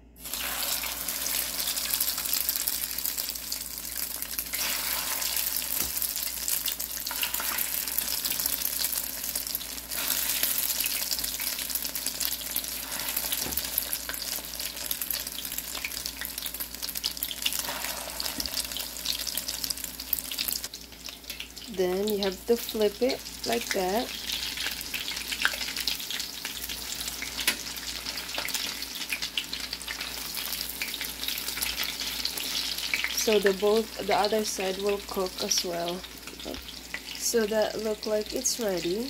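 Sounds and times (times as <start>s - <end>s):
crackling sizzle of frying: 0.0s - 39.0s.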